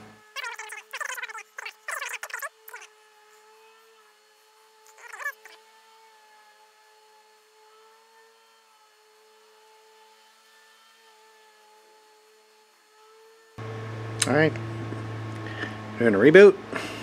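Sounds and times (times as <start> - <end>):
faint lawnmower engine drone: 0.0 - 17.0.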